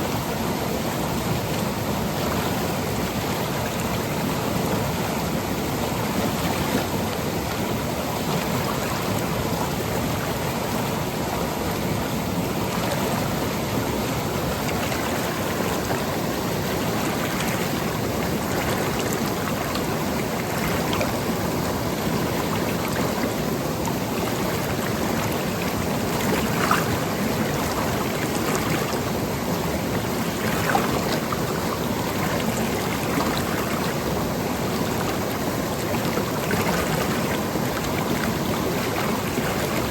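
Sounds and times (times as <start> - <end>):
stream flowing over rocks: 0.0 - 39.9
water splashes: 0.0 - 39.9.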